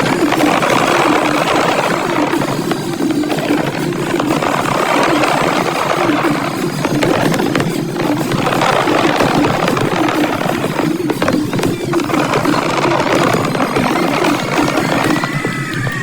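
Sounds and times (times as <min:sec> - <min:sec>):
fireworks rumbling: 0:00.0 - 0:16.0.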